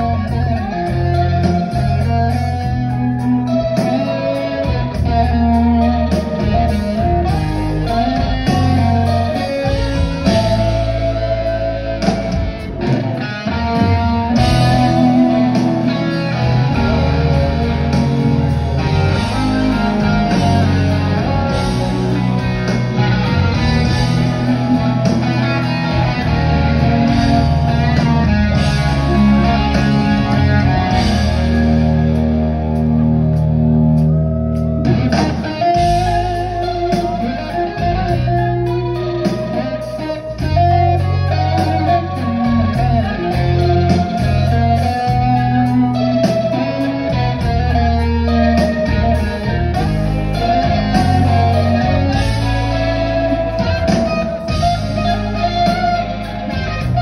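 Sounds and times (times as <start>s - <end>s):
electric guitar playing: 0.0s - 57.0s
rock band drums and bass: 0.0s - 57.0s.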